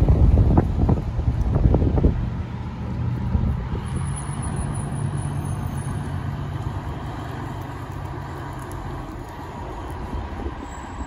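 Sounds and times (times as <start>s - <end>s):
fire truck diesel engine running: 0.0s - 11.0s.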